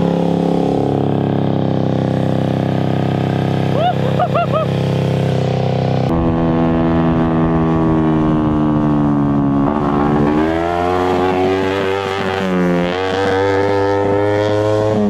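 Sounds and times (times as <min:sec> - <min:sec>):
kart engine accelerating: 0:00.0 - 0:15.0.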